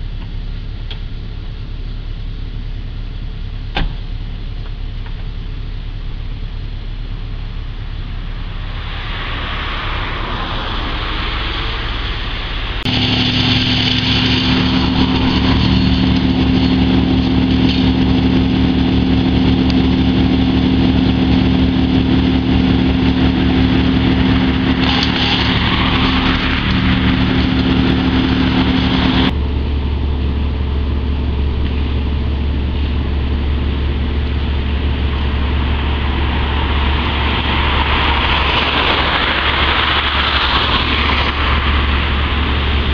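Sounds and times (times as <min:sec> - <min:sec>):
large engine running: 0:00.0 - 0:42.9.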